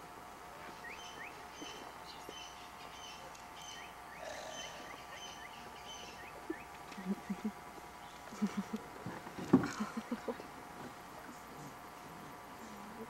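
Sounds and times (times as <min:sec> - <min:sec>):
faint steady hum: 0:00.0 - 0:13.0
birds chirping: 0:00.6 - 0:13.0.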